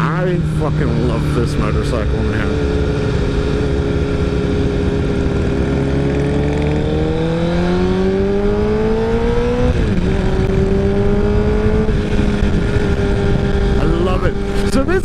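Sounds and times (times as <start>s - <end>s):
low wind rumble: 0.0s - 15.0s
motorcycle engine accelerating: 0.0s - 15.0s.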